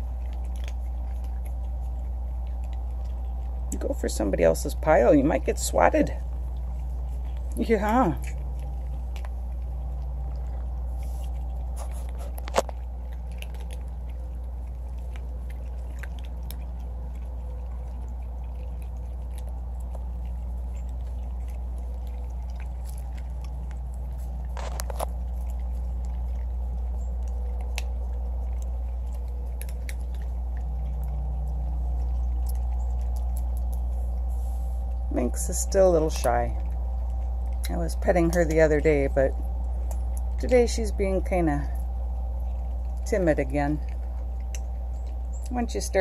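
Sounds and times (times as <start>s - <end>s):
cats crunching dry kibble: 0.0s - 46.0s
steady low hum: 0.0s - 46.0s.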